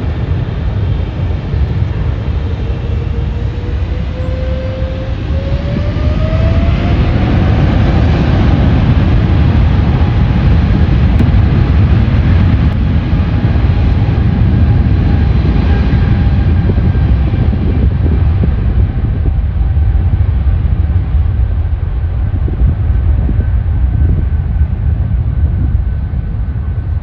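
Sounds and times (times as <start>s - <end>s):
jet engines rumbling with whine: 0.0s - 27.0s.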